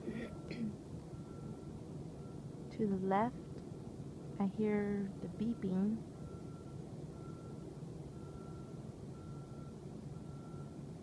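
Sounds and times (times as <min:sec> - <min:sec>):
distant reversing alarm beeping: 0:00.0 - 0:11.0
low mechanical rumble: 0:00.0 - 0:11.0.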